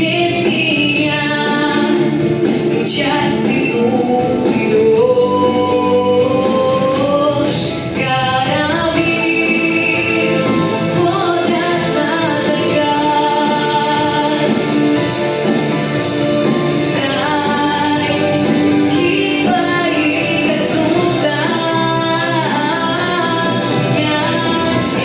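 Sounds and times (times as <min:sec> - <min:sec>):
high singing voice: 0:00.0 - 0:15.3, 0:16.4 - 0:25.0
instrumental backing track: 0:00.0 - 0:25.0.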